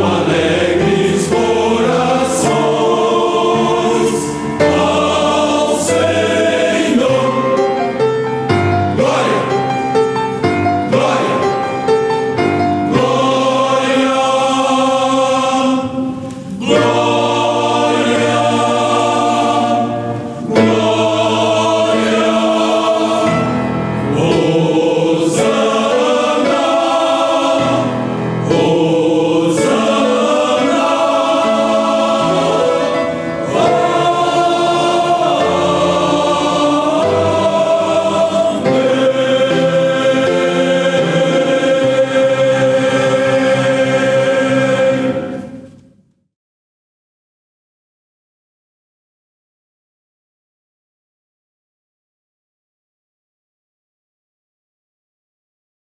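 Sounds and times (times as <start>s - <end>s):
choir singing a hymn: 0.0s - 45.8s.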